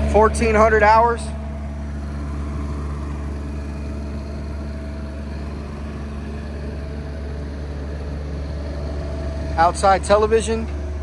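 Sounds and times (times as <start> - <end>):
diesel engine low hum: 0.0 - 11.0.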